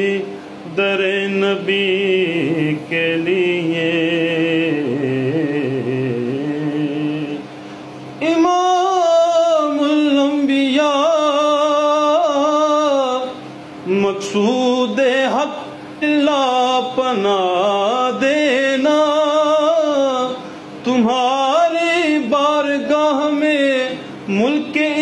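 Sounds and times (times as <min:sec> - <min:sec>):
man singing devotional verse: 0:00.0 - 0:07.5, 0:08.2 - 0:25.0.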